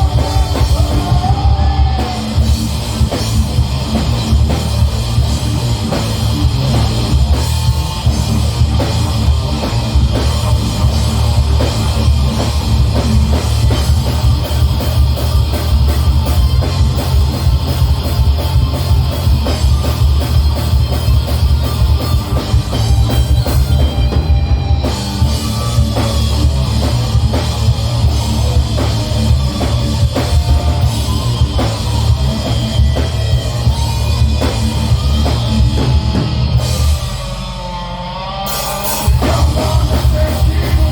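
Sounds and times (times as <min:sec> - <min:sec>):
distorted guitars and bass: 0:00.0 - 0:40.9
fast drum-kit beats: 0:00.0 - 0:40.9.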